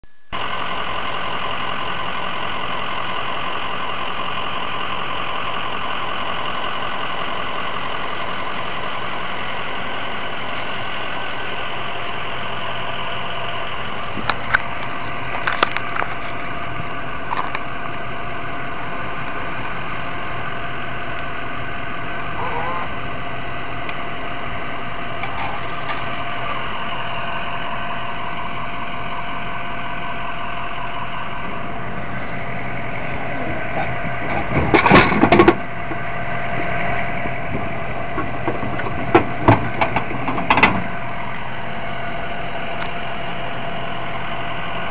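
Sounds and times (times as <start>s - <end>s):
vending machine hum: 0.0s - 44.9s.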